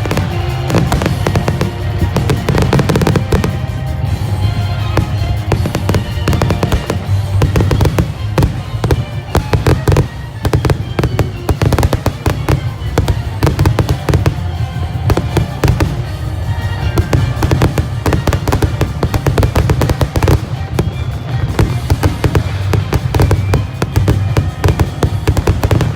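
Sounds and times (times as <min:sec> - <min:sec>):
fireworks bursts and crackles: 0:00.0 - 0:25.9
music playing: 0:00.0 - 0:25.9.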